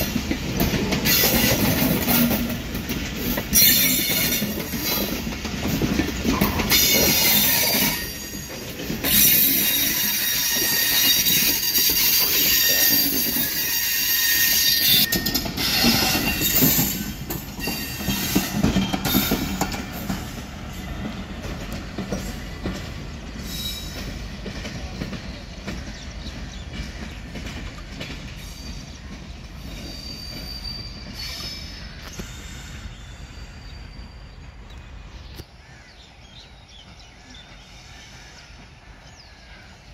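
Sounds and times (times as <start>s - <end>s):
train wheels clacking and squealing: 0.0s - 35.5s, 36.4s - 39.9s.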